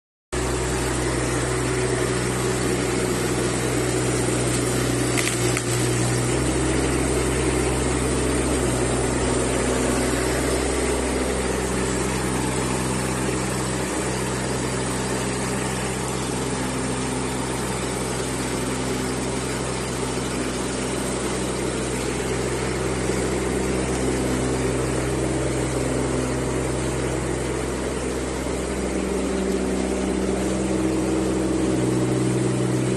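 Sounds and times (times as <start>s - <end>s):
excavator engine running: 0.4s - 32.9s.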